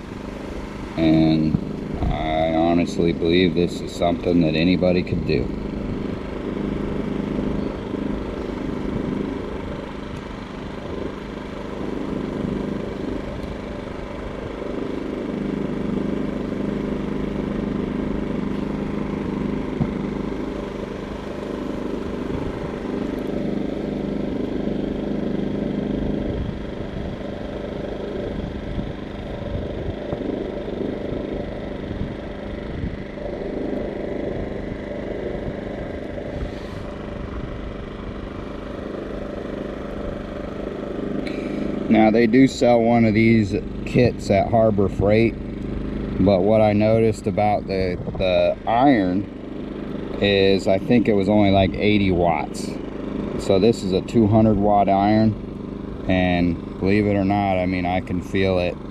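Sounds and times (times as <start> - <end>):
small engine running steadily: 0.0 - 58.9.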